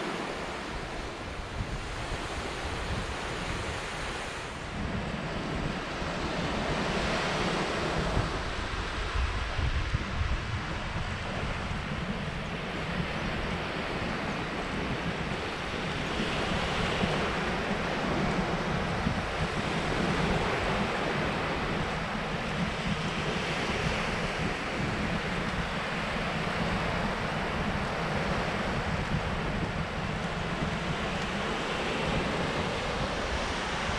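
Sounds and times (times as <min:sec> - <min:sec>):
waves breaking on beach: 0:00.0 - 0:33.9
wind buffeting microphone: 0:00.0 - 0:33.9.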